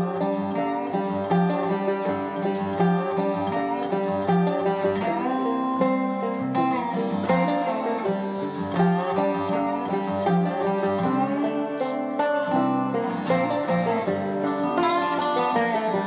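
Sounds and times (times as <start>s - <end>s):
plucked-string instrumental tune: 0.0s - 16.0s.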